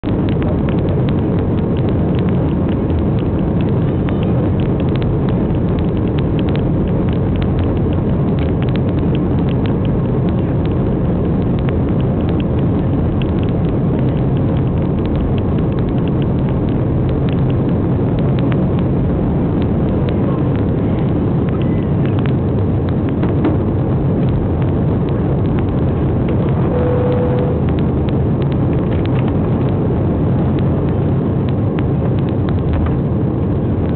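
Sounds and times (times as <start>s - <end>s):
jet engines rumbling at takeoff: 0.0s - 33.9s.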